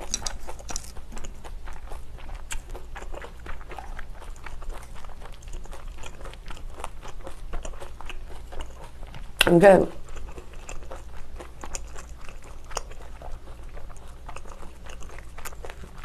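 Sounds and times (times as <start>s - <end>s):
low steady hum: 0.0s - 16.0s
wet chewing clicks and smacks: 0.0s - 16.0s.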